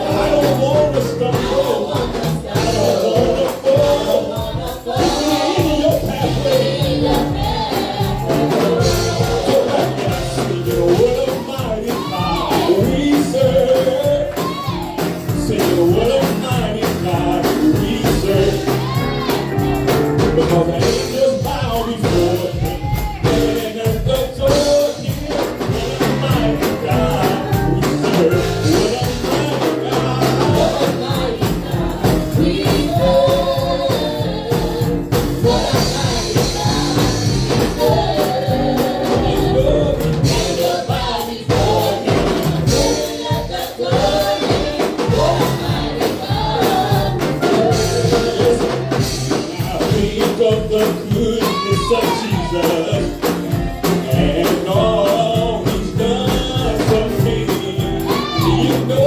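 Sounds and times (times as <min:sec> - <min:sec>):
church band playing gospel music: 0:00.0 - 0:59.0
people singing: 0:00.0 - 0:59.0
percussion beat: 0:00.0 - 0:59.0.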